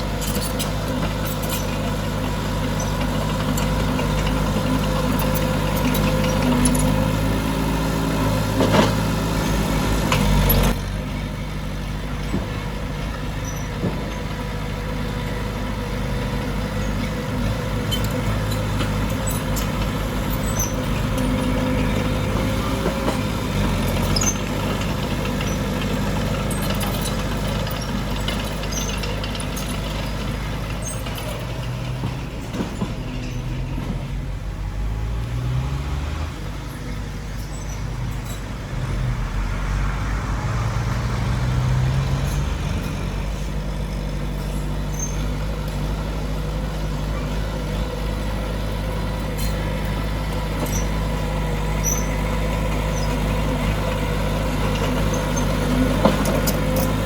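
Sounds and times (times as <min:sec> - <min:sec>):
heavy diesel engine revving: 0:00.0 - 0:57.0.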